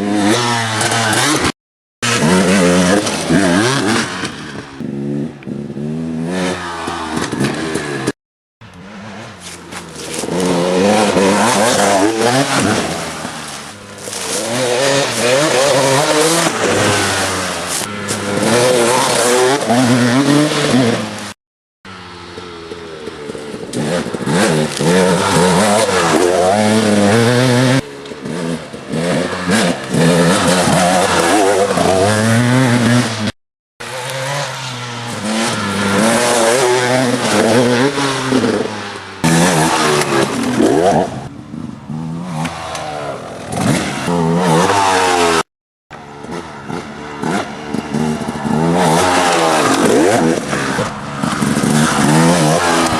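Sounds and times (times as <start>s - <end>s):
dirt bike engines revving: 0.0s - 52.9s.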